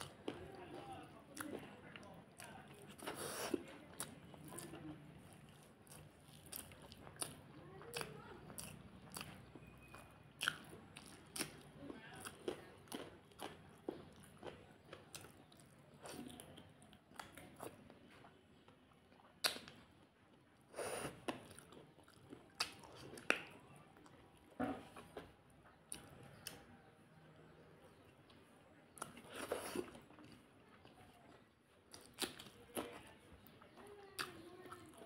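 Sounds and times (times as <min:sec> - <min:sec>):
chewing food: 0:00.0 - 0:35.0.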